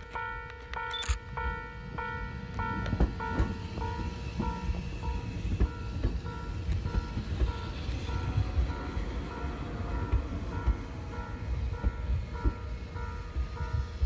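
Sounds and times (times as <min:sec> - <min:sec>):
train rumbling: 0:00.0 - 0:14.0
two-pitch warning bell dinging: 0:00.0 - 0:14.0.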